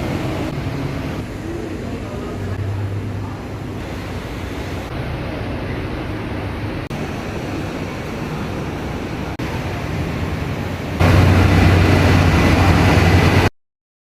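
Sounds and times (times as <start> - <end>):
low rumbling noise: 0.0 - 13.5.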